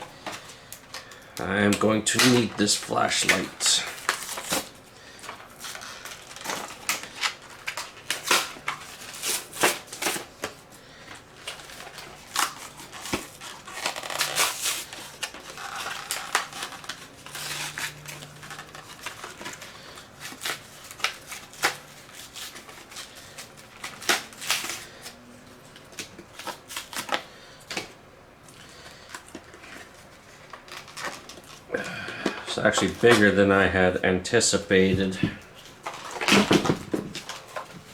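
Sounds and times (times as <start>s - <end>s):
packaging crinkling and clicking: 0.1s - 33.7s, 34.8s - 37.9s.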